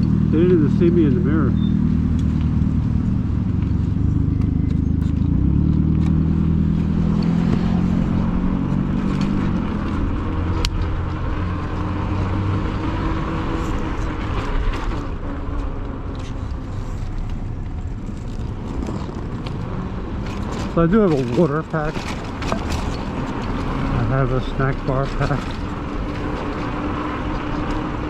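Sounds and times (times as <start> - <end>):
engine low hum: 0.0 - 28.0
passing traffic: 0.0 - 28.0.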